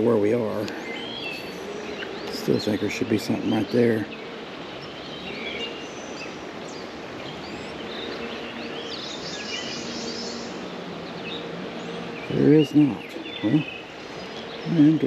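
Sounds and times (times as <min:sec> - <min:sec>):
birds chirping and twittering: 0:00.0 - 0:15.0
steady outdoor hiss: 0:00.0 - 0:15.0.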